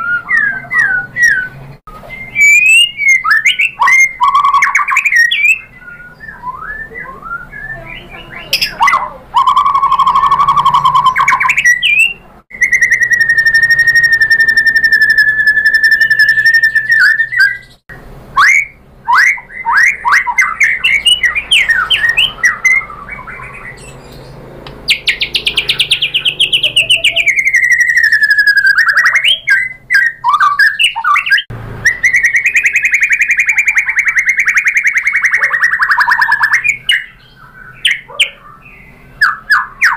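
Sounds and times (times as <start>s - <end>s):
bird singing with whistles and trills: 0.0s - 39.9s.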